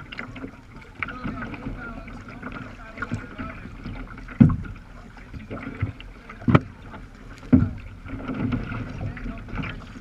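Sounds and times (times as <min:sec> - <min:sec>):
water splashing against kayak hull: 0:00.0 - 0:10.0.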